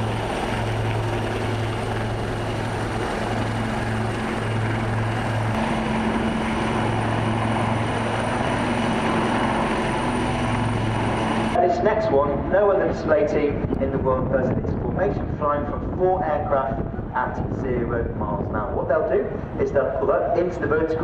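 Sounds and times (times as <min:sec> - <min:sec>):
aircraft engines droning: 0:00.0 - 0:21.0.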